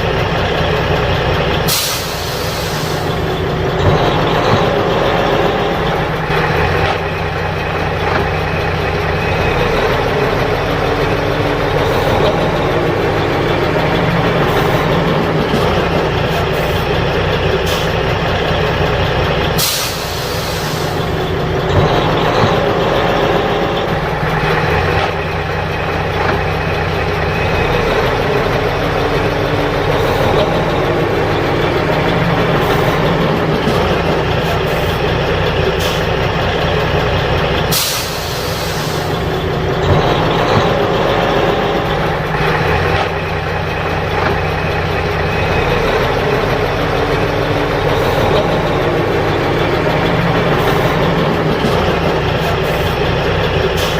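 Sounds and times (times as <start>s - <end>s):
diesel truck engine labouring: 0.0s - 53.9s.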